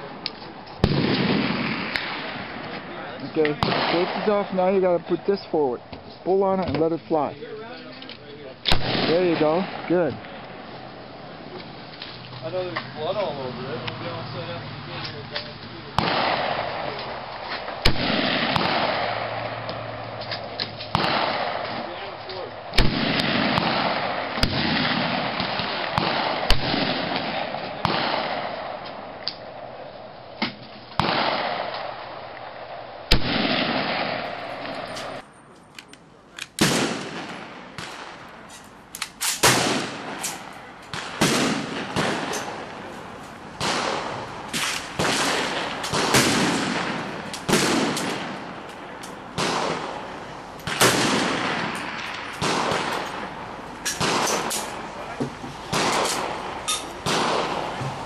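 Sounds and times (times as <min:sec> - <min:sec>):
rifle shots echoing: 0:00.0 - 0:07.3, 0:08.5 - 0:12.1, 0:15.9 - 0:30.0, 0:30.9 - 0:35.3, 0:36.4 - 0:58.0.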